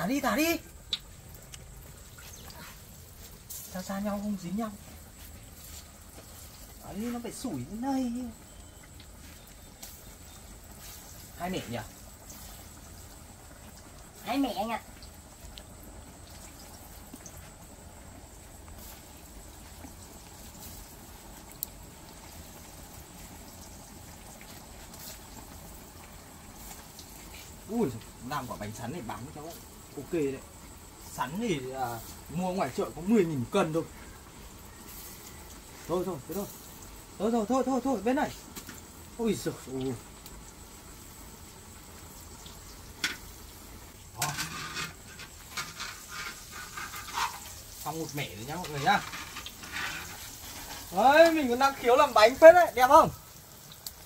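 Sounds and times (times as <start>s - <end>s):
food deep-frying in hot oil: 0.0s - 54.0s.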